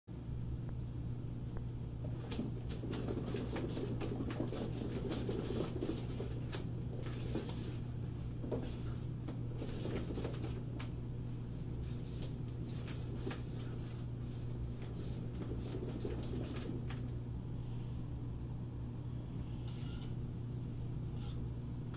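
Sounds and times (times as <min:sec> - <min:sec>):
steady low hum: 0:00.1 - 0:21.9.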